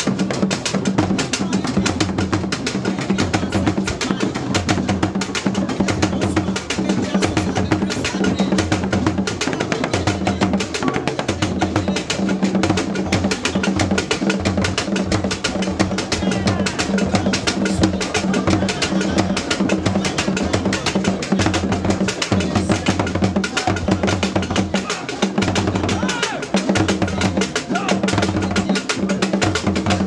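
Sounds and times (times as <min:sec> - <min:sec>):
drum ensemble playing: 0:00.0 - 0:30.0.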